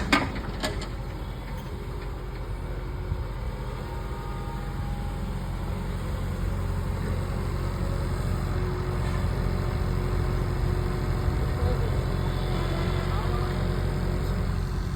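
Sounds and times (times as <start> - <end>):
excavator engine running: 0.0 - 14.9.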